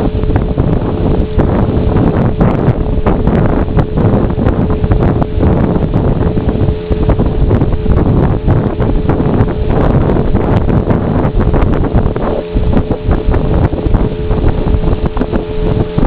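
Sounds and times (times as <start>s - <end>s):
motorboat engine humming: 0.0s - 16.0s
wind buffeting microphone: 0.0s - 16.0s.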